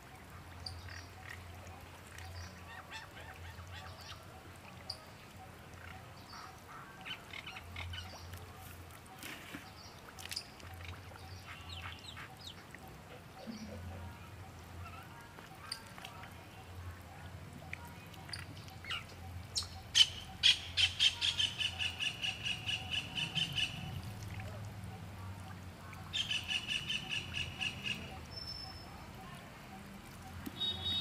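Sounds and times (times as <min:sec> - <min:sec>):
bird calls: 0:00.1 - 0:25.1, 0:25.8 - 0:31.0.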